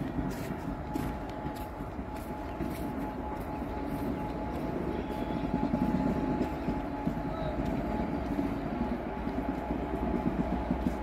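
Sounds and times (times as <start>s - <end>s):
thin steady whine: 0.0s - 11.0s
train rumbling and clattering: 0.0s - 11.0s.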